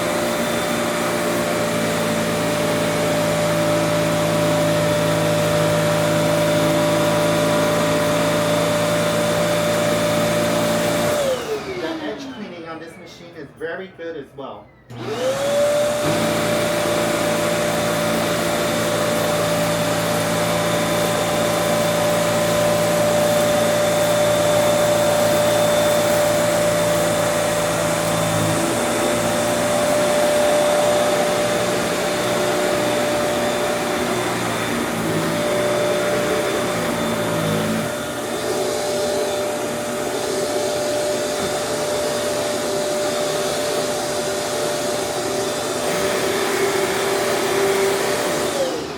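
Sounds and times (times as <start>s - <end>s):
vacuum cleaner motor whine: 0.0s - 13.2s, 14.8s - 48.9s.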